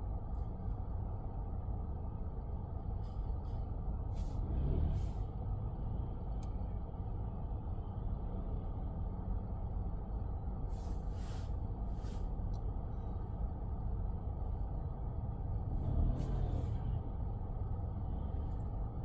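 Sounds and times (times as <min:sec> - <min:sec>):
car driving on road: 0:00.0 - 0:19.0.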